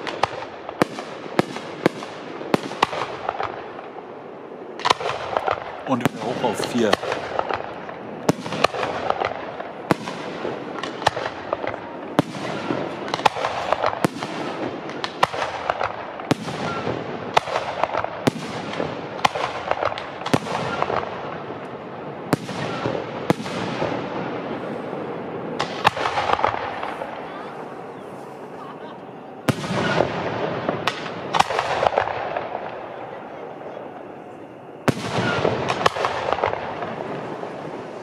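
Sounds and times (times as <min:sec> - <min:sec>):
fireworks bangs: 0:00.0 - 0:38.0
fireworks hiss and crackle: 0:00.0 - 0:38.0.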